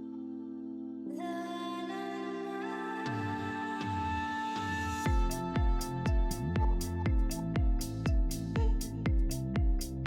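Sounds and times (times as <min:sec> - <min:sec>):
slow ambient instrumental music: 0:00.0 - 0:10.0.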